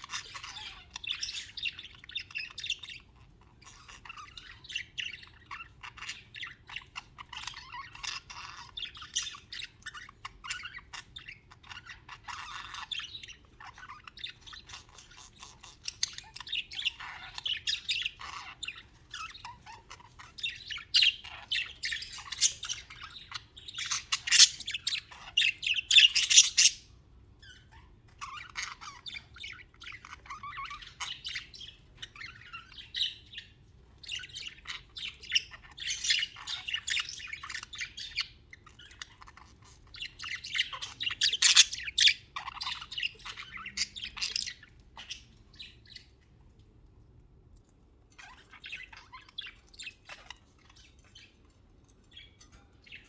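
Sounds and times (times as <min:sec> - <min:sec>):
budgies chattering: 0:00.0 - 0:46.6, 0:48.0 - 0:53.0.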